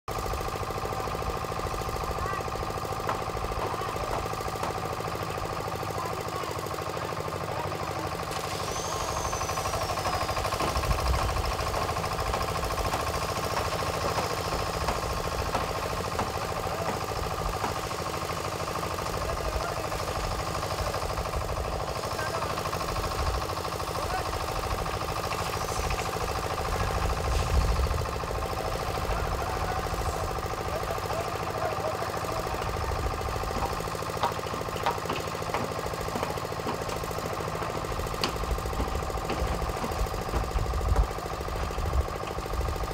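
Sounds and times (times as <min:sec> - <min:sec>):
cement mixer diesel engine: 0:00.1 - 0:42.9.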